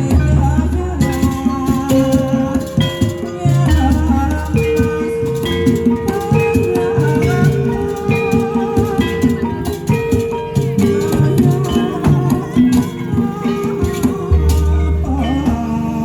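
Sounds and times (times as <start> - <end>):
drums and rattling percussion: 0.0 - 16.0
held pitched notes and melody: 0.0 - 16.0.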